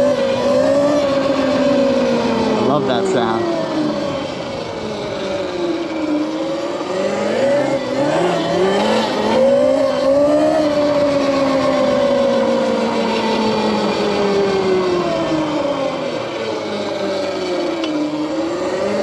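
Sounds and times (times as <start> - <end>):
electric dirt bike motor whining: 0.0 - 19.0.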